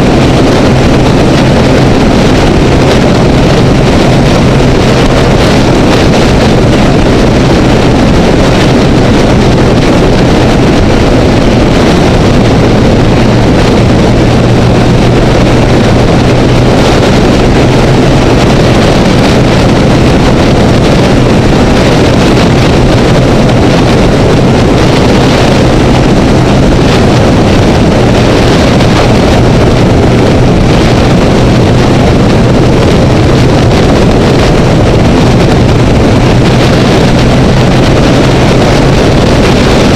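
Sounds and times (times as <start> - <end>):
motorcycle engine drone: 0.0 - 39.9
road noise: 0.0 - 39.9
wind rush: 0.0 - 39.9.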